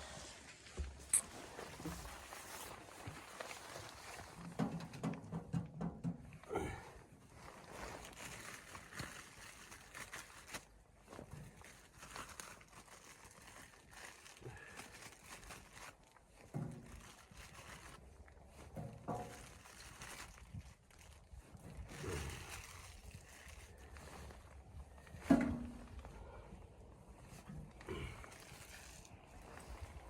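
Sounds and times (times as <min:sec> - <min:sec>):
rustling and crinkling: 0:00.0 - 0:30.0.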